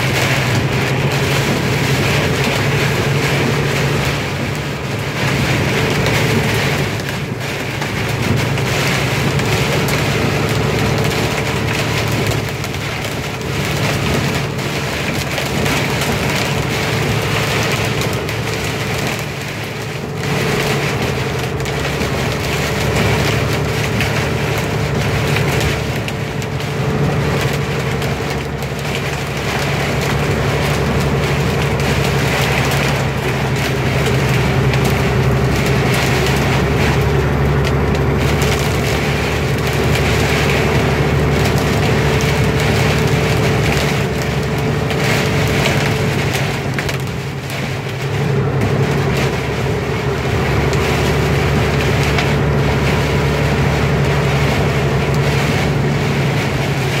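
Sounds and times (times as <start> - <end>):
engine and road noise drone: 0.0 - 57.0
heavy rain on car roof: 0.0 - 57.0.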